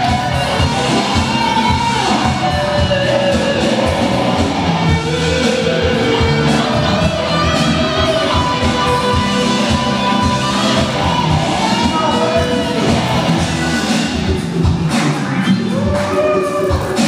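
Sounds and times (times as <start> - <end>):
person singing: 0.0 - 14.4
drum kit beat: 0.0 - 17.0
electric guitars: 0.0 - 17.0.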